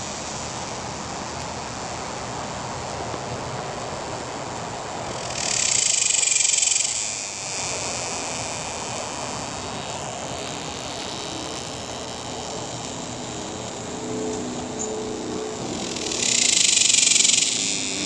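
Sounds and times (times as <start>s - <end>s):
background hiss: 0.0s - 18.0s
cicada pulsing buzz: 0.0s - 18.0s.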